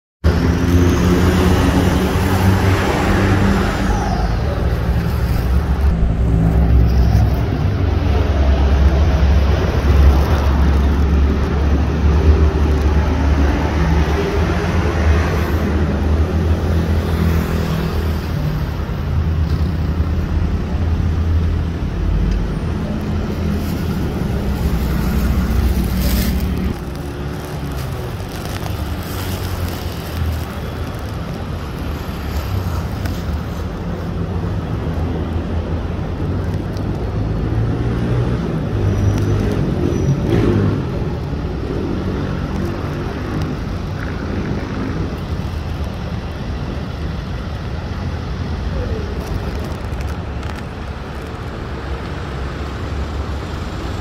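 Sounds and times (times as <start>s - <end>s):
road traffic rumble: 0.2s - 54.0s.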